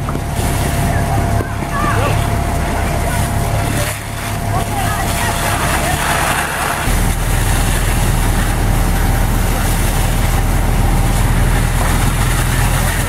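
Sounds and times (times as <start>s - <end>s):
diesel engine drone: 0.0s - 13.0s
hose water rushing: 0.0s - 13.0s.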